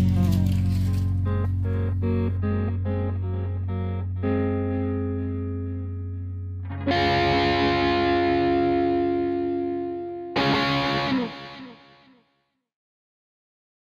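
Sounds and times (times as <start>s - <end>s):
distorted electric guitar chords: 0.0s - 12.1s.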